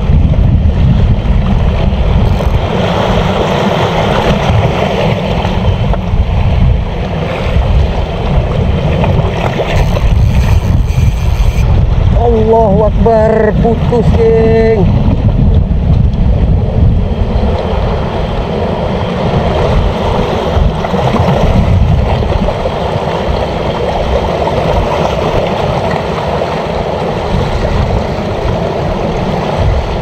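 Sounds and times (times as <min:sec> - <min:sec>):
sea water washing at shore: 0:00.0 - 0:30.0
wind on microphone: 0:00.0 - 0:30.0.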